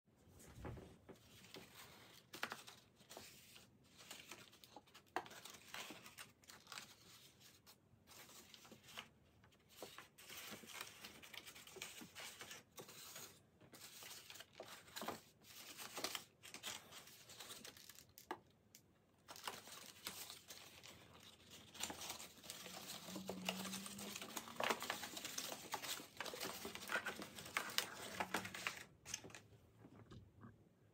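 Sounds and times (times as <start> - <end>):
paper rustling and crinkling: 0.3 - 18.4, 19.2 - 29.5.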